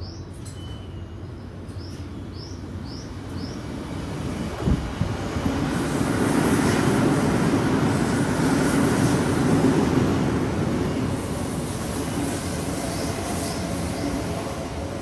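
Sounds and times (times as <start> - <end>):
express train passing: 0.0 - 15.0.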